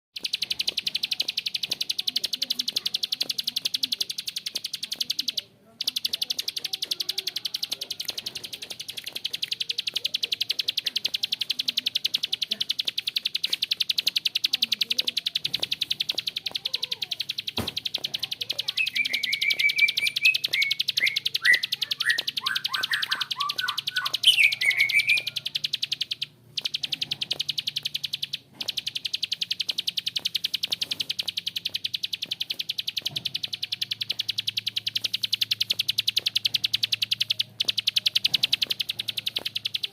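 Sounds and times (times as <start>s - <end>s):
bird clicking rattle: 0.2s - 39.9s.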